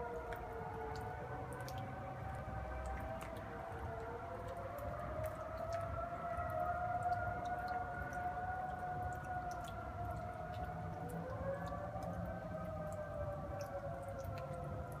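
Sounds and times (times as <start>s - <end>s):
tornado sirens wailing: 0.0s - 15.0s.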